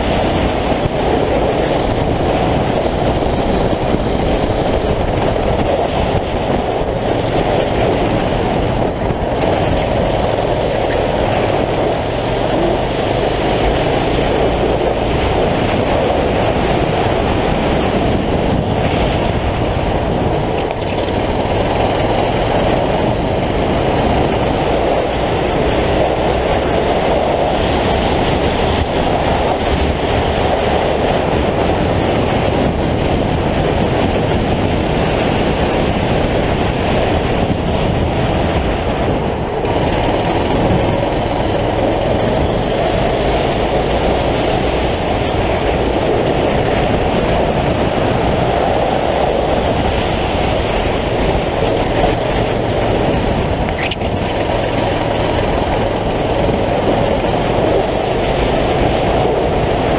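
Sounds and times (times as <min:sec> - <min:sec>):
kart engine droning: 0:00.0 - 0:59.9.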